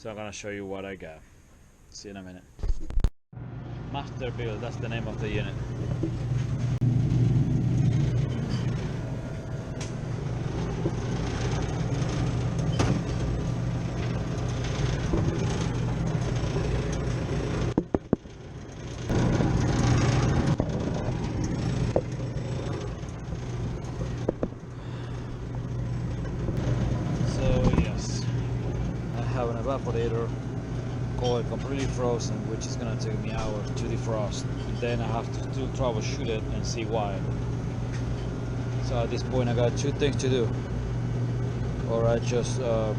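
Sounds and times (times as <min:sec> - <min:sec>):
refrigeration equipment hum: 0:03.4 - 0:42.9.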